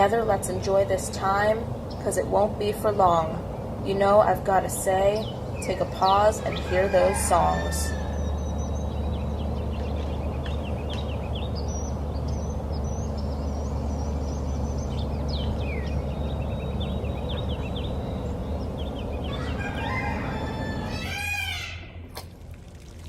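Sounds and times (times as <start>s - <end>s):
birds chirping and singing: 0.0s - 21.9s
steady low rumble: 0.0s - 23.0s.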